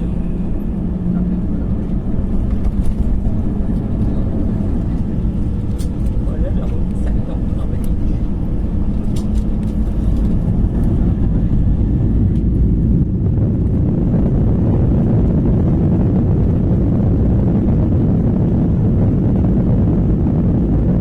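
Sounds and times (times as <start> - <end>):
jet engine cabin rumble: 0.0 - 21.0.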